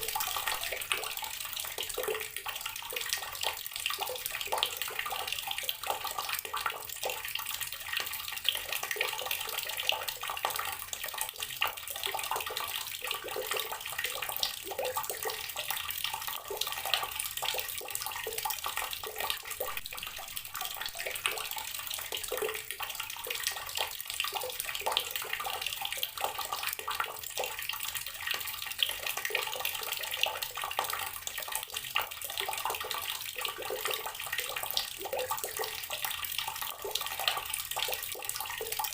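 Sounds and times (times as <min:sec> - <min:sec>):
water running from tap and splashing: 0:00.0 - 0:38.9.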